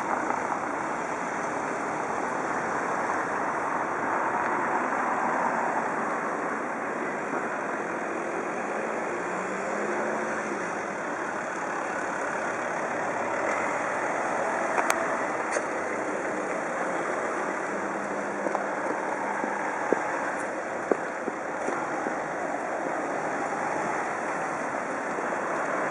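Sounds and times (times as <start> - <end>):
street traffic: 0.0 - 25.9.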